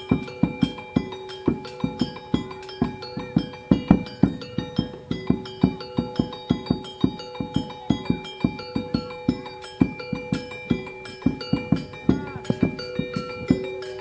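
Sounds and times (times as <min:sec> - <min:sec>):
fast drum strokes: 0:00.0 - 0:14.0
ringing held notes: 0:00.0 - 0:14.0.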